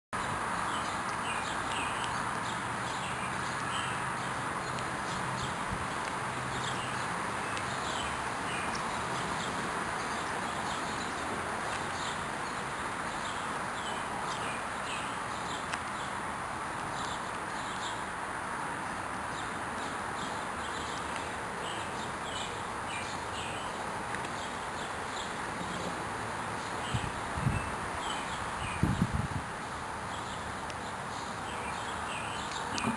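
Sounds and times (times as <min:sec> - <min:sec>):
small birds chirping: 0:00.2 - 0:32.9
steady background hiss: 0:00.2 - 0:32.9.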